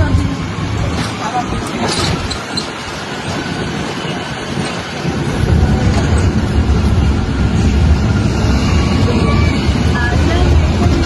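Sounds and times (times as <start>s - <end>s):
tractor engine rumble: 0.0s - 11.0s.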